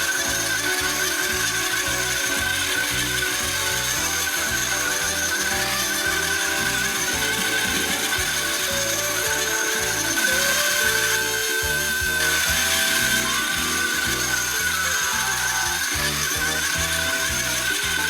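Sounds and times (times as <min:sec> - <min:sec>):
background music with beat: 0:00.0 - 0:18.0
toy motor whirring: 0:00.0 - 0:18.0.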